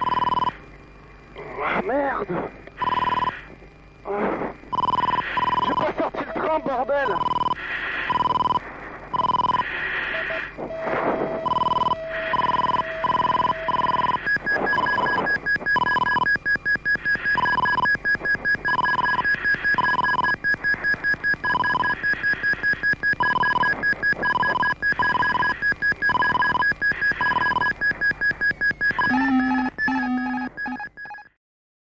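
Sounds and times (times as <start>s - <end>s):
rapidly pulsing alarm tone: 0.0s - 0.6s, 2.8s - 3.5s, 4.7s - 31.4s.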